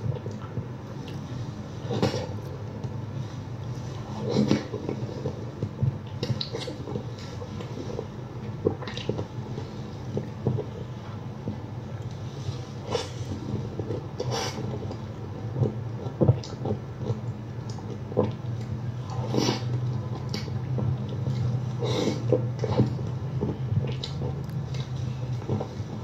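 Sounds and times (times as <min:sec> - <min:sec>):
low steady hum: 0:00.0 - 0:26.0
person chewing food: 0:00.1 - 0:26.0.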